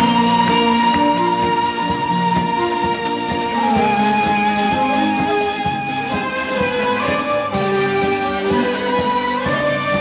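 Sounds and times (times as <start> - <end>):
held melody line: 0.0 - 10.0
plucked guitar: 0.0 - 10.0
steady percussion beat: 0.0 - 10.0
strings: 0.0 - 10.0.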